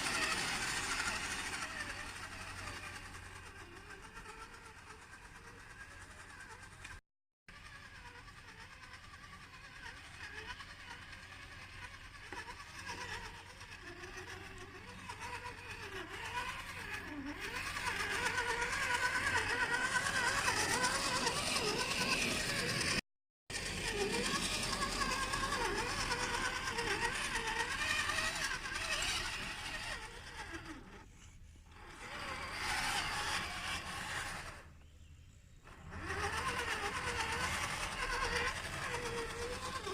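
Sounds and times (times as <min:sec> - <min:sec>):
electric motor and gears whining: 0:00.0 - 0:39.9.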